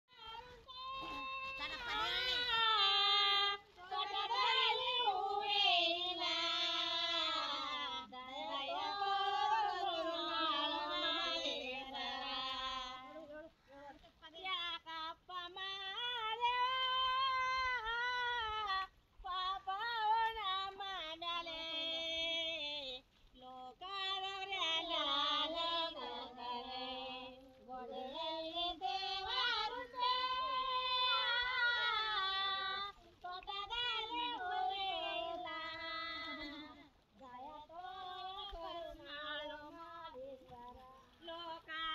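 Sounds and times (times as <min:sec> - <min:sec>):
woman singing unaccompanied: 0:00.1 - 0:41.9.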